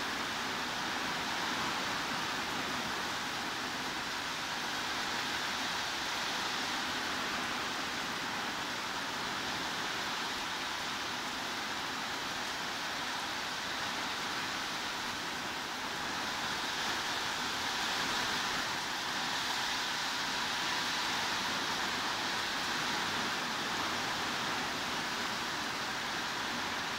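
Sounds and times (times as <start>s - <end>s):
heavy rain falling: 0.0s - 26.9s.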